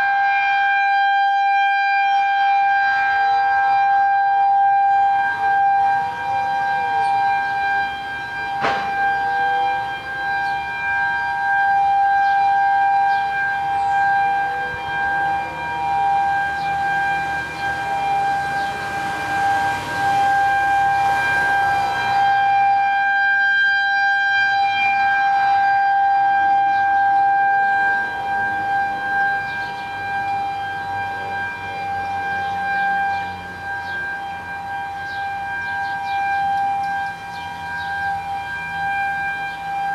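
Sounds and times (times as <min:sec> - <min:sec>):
distant sirens gliding in pitch: 0:00.0 - 0:39.9
warning siren steady tone: 0:00.0 - 0:39.9.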